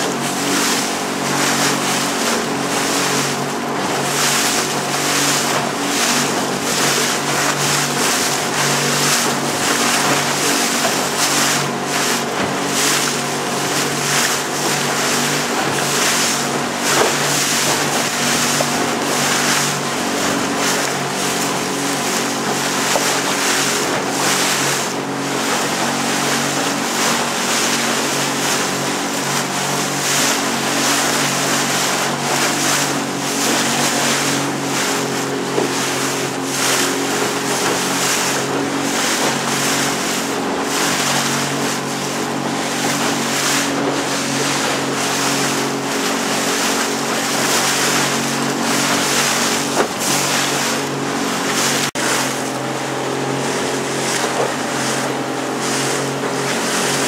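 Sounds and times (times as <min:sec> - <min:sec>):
boat motor running: 0:00.0 - 0:57.0
rushing water: 0:00.0 - 0:57.0
wind: 0:00.0 - 0:57.0.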